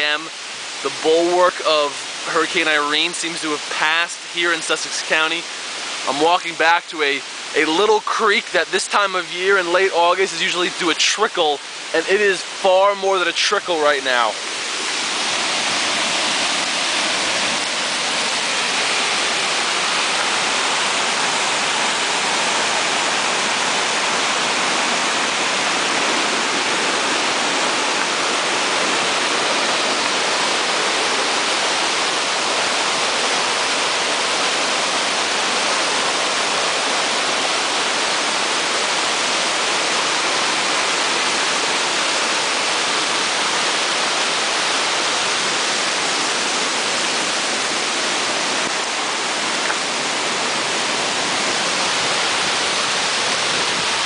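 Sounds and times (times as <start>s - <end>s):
creek rushing over rocks: 0.0s - 54.0s.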